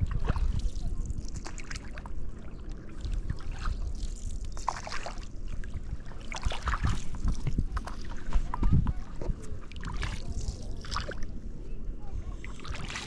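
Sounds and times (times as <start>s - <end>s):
paddle splashing water: 0.0s - 11.4s, 12.3s - 13.0s
wind rumble on microphone: 0.0s - 13.0s.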